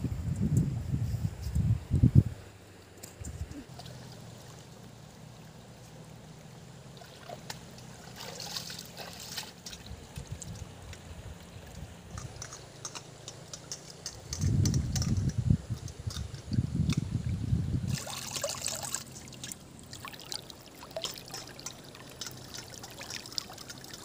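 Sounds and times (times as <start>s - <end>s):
water sloshing and trickling: 3.0s - 24.0s.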